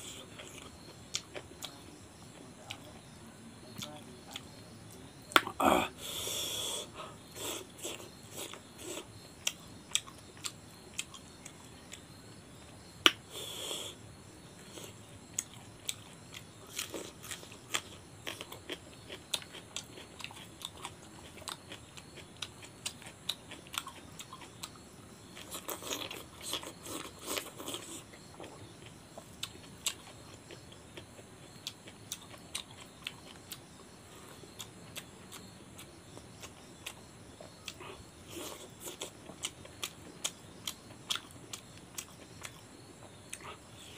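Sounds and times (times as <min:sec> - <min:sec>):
close chewing with wet clicks: 0:00.3 - 0:03.0, 0:07.4 - 0:12.1, 0:14.7 - 0:33.8, 0:34.4 - 0:43.7.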